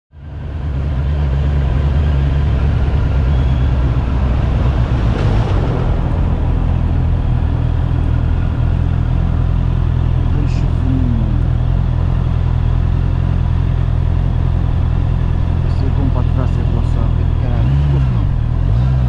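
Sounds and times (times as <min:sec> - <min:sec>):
motorcycle engine running: 0:00.2 - 0:19.0.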